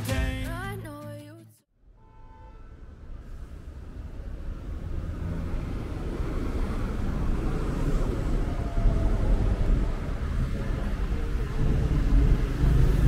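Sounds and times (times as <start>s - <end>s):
low rumble of traffic: 1.8s - 13.0s.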